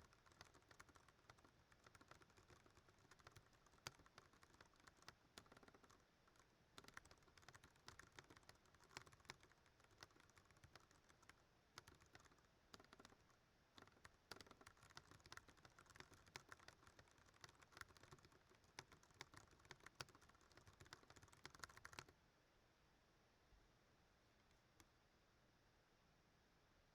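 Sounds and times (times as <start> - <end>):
mechanical keyboard typing: 0.0 - 22.1.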